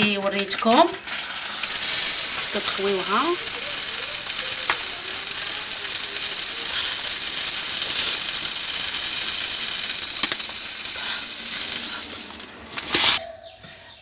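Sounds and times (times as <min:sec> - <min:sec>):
salt pouring through plastic funnel: 0:01.0 - 0:13.2.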